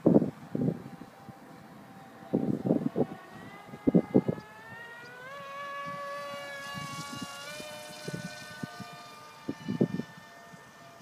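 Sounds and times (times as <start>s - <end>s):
model plane motor whining: 0.0s - 11.0s
wind gusts on microphone: 0.0s - 11.0s.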